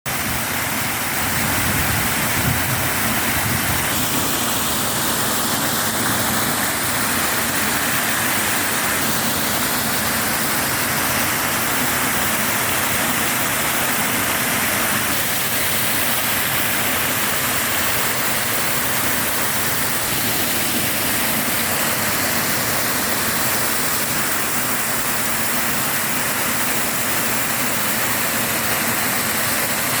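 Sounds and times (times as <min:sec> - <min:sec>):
fountain water gushing: 0:00.1 - 0:30.0.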